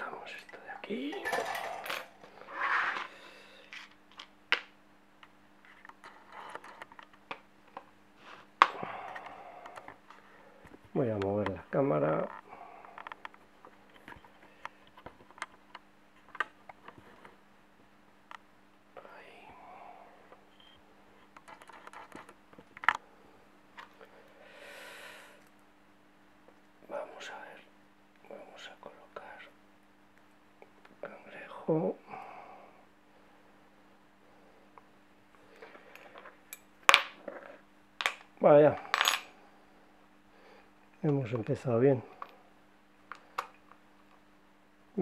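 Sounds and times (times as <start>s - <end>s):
faint low hum: 0.0s - 45.0s.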